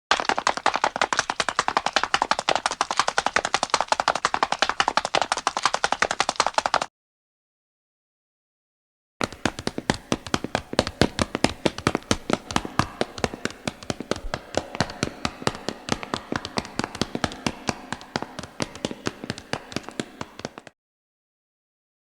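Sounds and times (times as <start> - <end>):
running footsteps: 0.1 - 6.9, 9.2 - 20.7.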